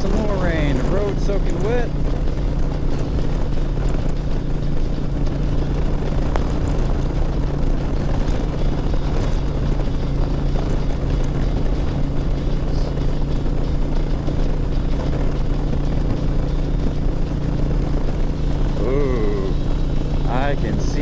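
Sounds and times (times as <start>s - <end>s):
motorcycle engine running: 0.0s - 21.0s
wind rush: 0.0s - 21.0s.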